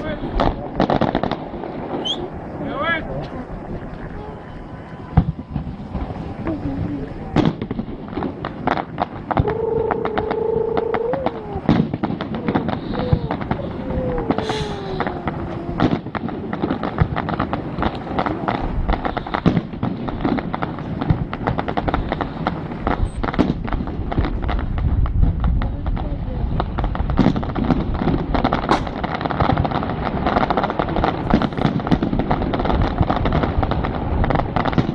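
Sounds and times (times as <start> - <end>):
fireworks booms: 0.0 - 34.9
fireworks crackling: 0.0 - 34.9.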